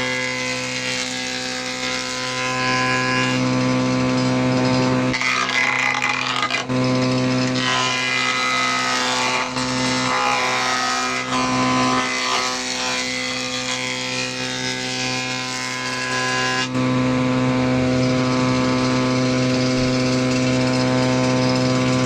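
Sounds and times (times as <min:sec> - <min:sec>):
woodworking machine motor humming: 0:00.0 - 0:22.0.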